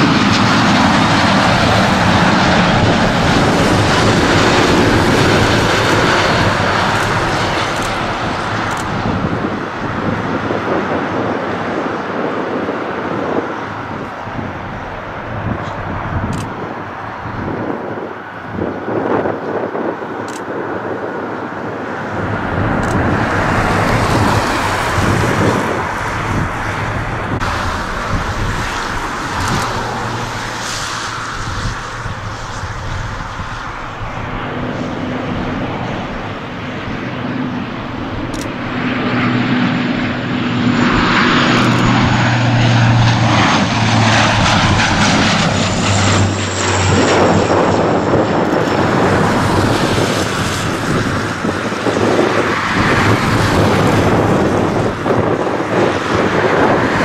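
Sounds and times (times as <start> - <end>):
jet airliner engines roaring: 0.0 - 57.0
turboprop propeller drone: 0.0 - 57.0.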